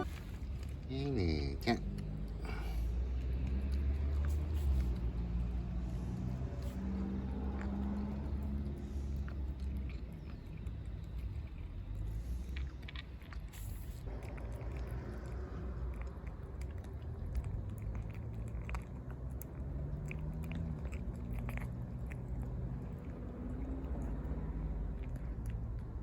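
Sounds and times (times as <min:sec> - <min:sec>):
cat chewing and biting: 0:00.0 - 0:26.0.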